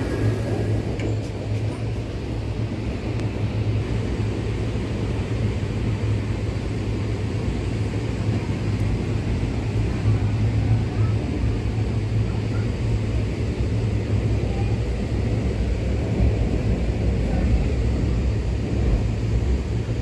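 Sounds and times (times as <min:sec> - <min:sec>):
constant low hum: 0:00.0 - 0:20.0
train wheels on rails: 0:00.0 - 0:20.0.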